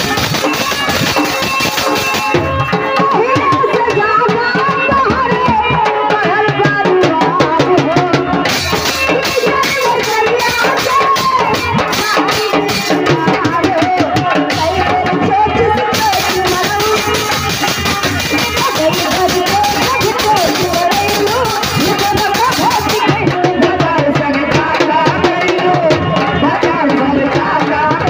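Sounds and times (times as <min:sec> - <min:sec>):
hand-drum beats: 0:00.0 - 0:28.0
woman singing: 0:02.4 - 0:28.0.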